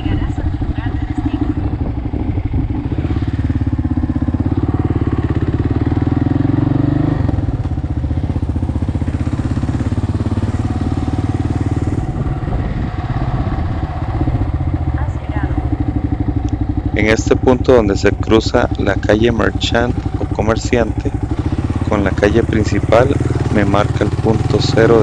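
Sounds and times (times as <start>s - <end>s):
motorcycle engine thumping: 0.0s - 25.0s.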